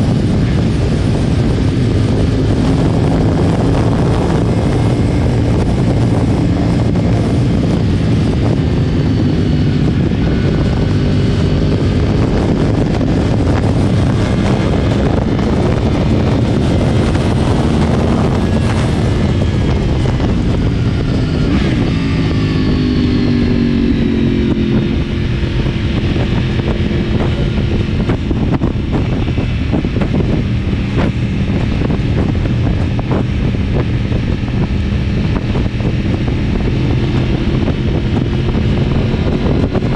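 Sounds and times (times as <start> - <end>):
light wind noise: 0.0 - 39.9
motorcycle engine running: 0.0 - 39.9.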